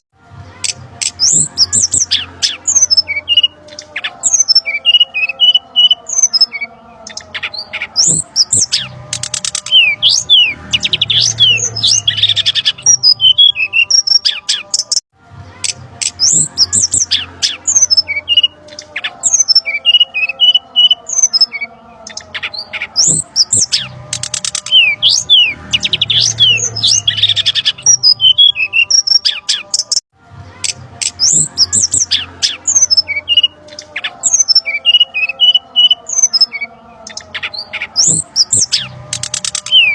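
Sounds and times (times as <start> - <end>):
birds chirping and squawking: 0.6 - 15.0, 15.6 - 30.0, 30.6 - 39.9.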